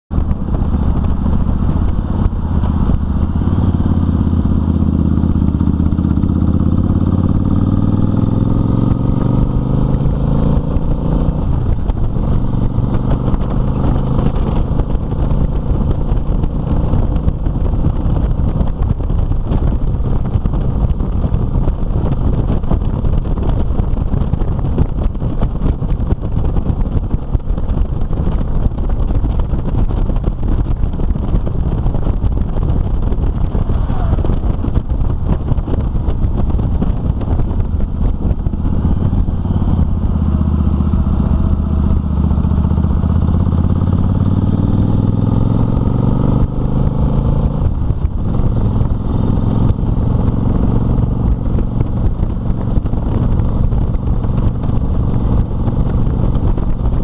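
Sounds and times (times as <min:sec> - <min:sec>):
motorcycle engine accelerating: 0:00.0 - 0:57.0
wind rush on microphone: 0:00.1 - 0:57.0.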